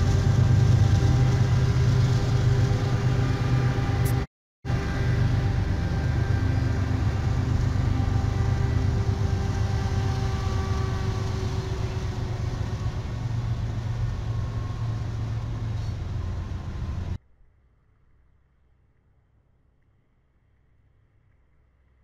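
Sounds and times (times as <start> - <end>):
locomotive engine drone: 0.0 - 22.0.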